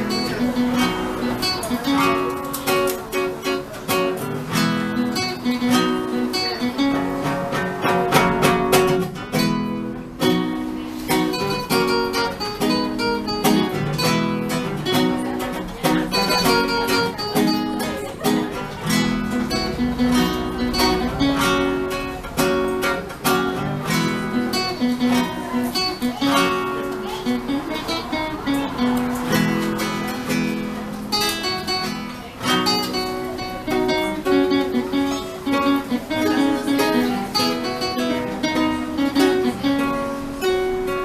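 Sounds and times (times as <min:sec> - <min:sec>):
acoustic guitar strummed and plucked: 0:00.0 - 0:41.0.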